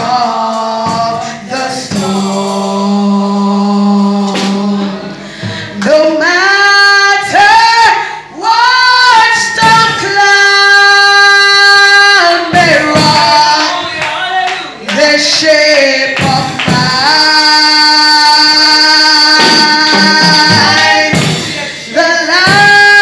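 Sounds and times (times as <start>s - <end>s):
woman singing gospel song: 0.0s - 23.0s.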